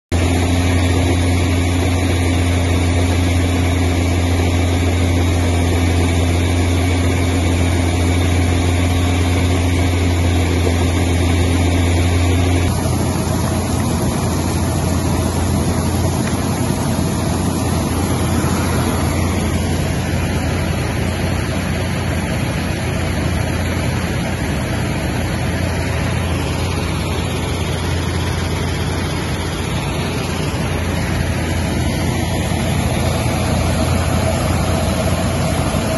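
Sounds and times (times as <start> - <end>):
screening machine humming: 0.1 - 35.9.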